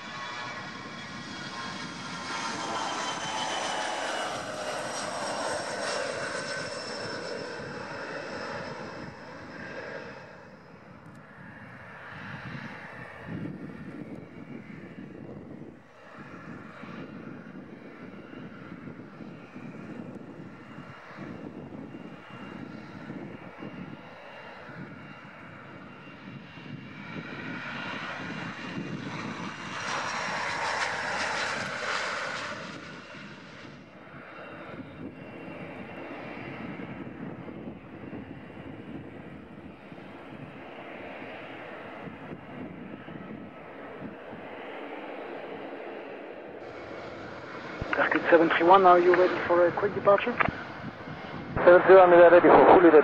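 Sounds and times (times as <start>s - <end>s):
jet engines whine and rumble: 0.0s - 53.0s.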